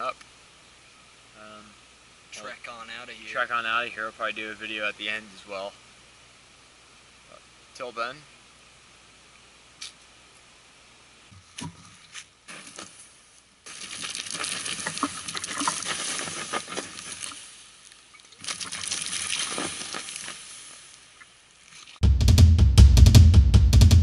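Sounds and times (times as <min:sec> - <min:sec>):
water hissing on hot embers: 0:00.0 - 0:22.0.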